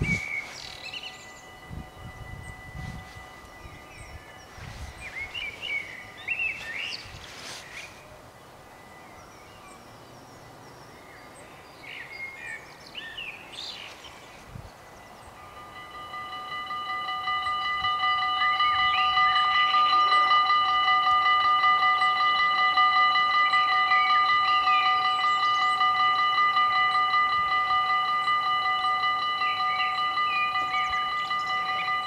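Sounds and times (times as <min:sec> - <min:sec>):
level crossing warning bell: 0:00.0 - 0:09.9, 0:14.8 - 0:32.0
small birds chirping: 0:00.0 - 0:32.0.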